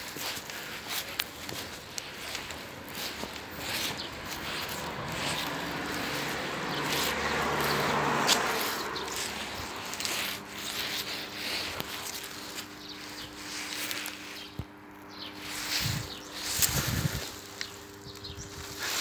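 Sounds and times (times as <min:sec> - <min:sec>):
footsteps on concrete: 0:00.0 - 0:19.0.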